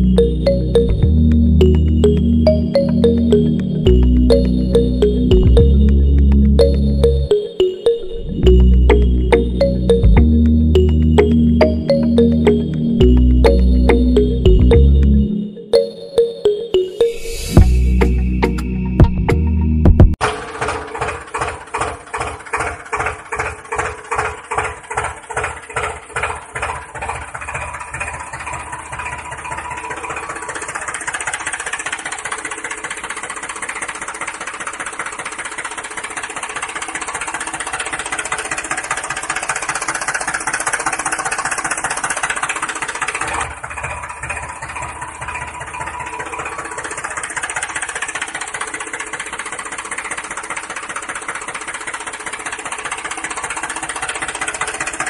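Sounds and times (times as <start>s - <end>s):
tractor engine chugging: 0.0s - 15.4s, 17.6s - 55.0s.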